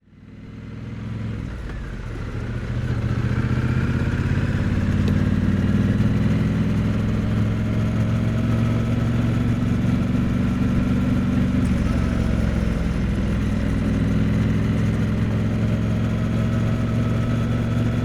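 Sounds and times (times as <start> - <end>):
motorcycle engine running: 0.1 - 18.0.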